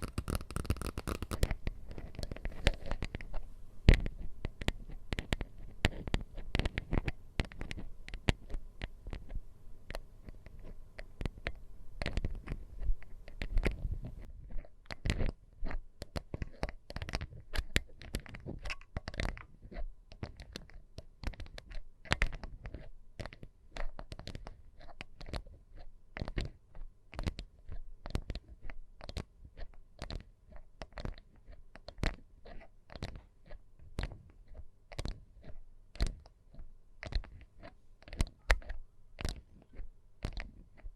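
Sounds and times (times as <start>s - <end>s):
crunchy scratching: 0.0s - 40.9s.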